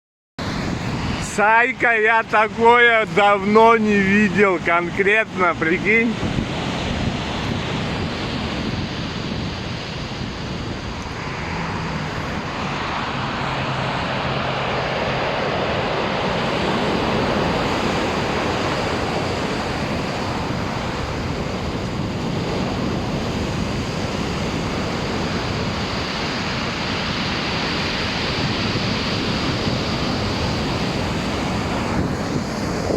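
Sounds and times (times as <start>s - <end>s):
waves breaking: 0.4s - 32.9s
wind on microphone: 0.4s - 32.9s.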